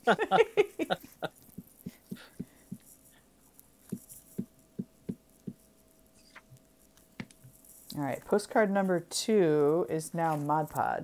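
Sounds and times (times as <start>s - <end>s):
brush dabbing on paper: 0.0s - 8.9s.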